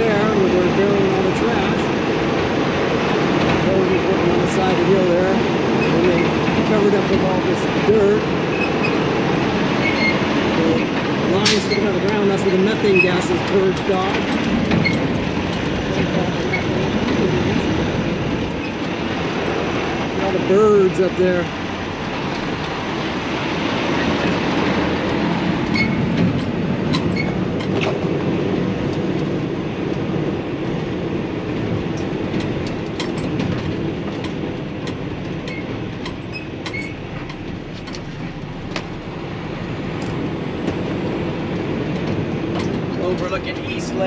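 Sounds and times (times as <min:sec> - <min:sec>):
rattles and clunks: 0:00.0 - 0:44.0
truck engine and road rumble: 0:00.0 - 0:44.0.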